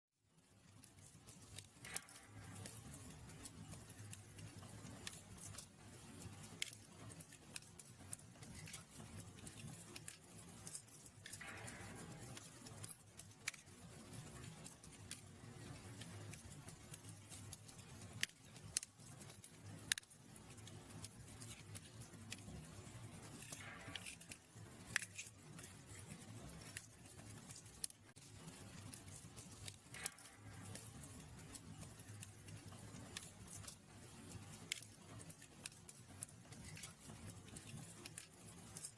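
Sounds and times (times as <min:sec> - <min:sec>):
wood fire crackling: 0:00.2 - 0:38.9
low rumble of flames: 0:00.3 - 0:38.9
sharp pops of fire: 0:00.4 - 0:38.9.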